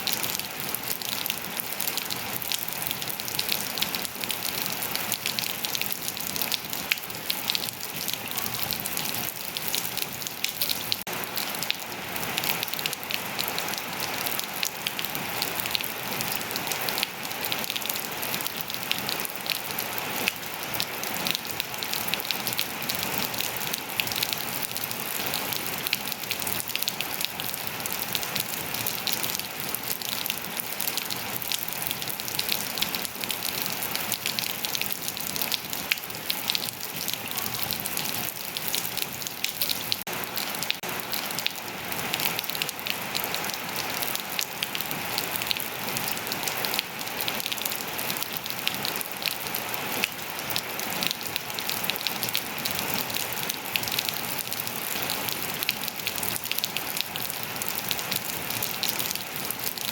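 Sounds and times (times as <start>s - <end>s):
raindrops ticking on surfaces: 0.0s - 59.9s
steady rain falling: 0.0s - 59.9s.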